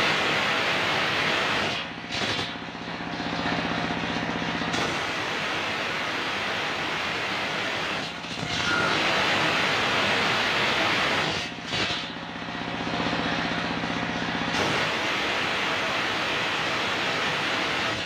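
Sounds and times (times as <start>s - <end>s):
engine droning: 0.4s - 17.8s.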